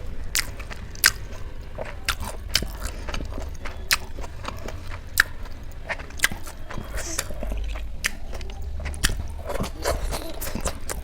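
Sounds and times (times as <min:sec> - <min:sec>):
person chewing with mouth smacks: 0:00.0 - 0:11.0.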